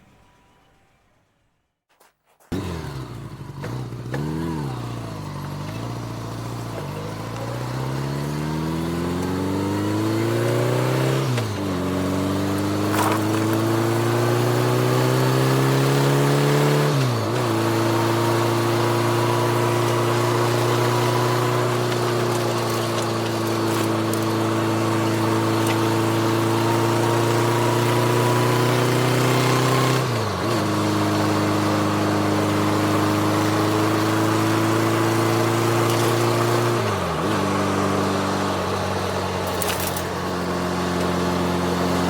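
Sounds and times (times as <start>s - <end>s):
car accelerating through gears: 2.6s - 42.0s
car engine starting: 2.6s - 42.0s.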